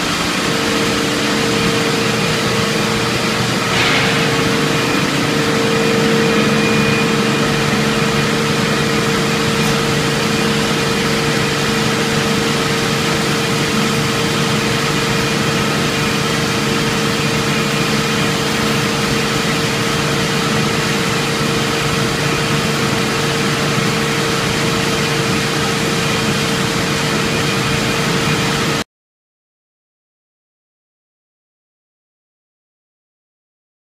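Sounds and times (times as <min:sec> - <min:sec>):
constant machine hum: 0:00.0 - 0:28.8
machinery mechanical rush: 0:00.0 - 0:28.8.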